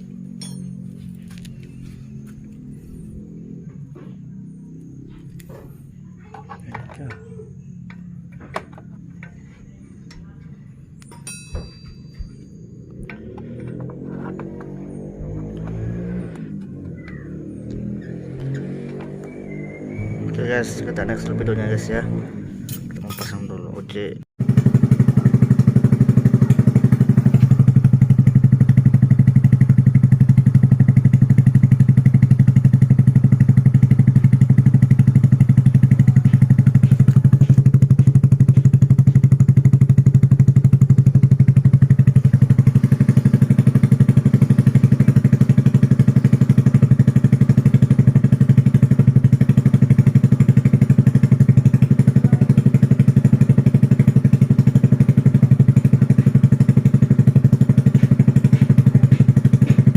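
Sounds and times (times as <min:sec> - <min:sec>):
scooter engine idling: 0:00.0 - 0:59.9.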